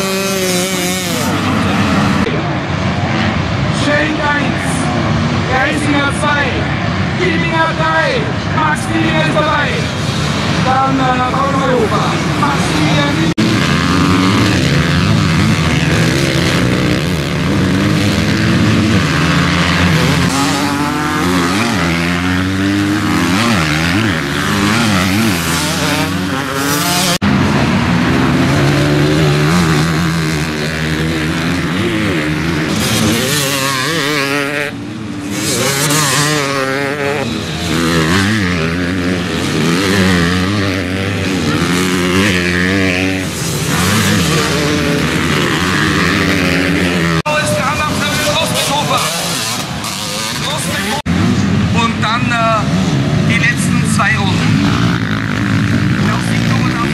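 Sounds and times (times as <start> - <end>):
motocross bike engines revving: 0.0 - 56.9.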